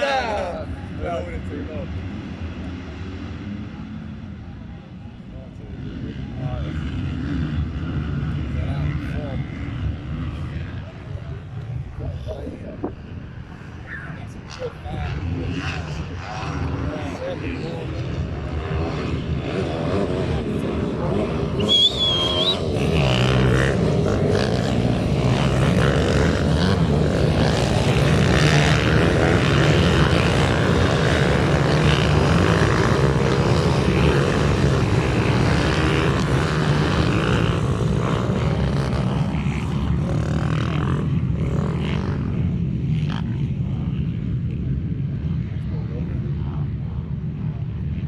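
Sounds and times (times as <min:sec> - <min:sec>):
minibike engines racing: 0:00.0 - 0:48.0.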